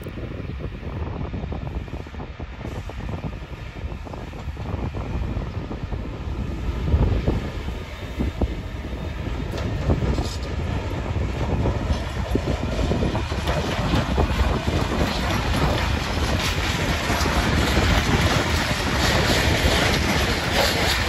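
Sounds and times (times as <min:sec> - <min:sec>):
freight train wheels clattering: 0:03.9 - 0:21.0.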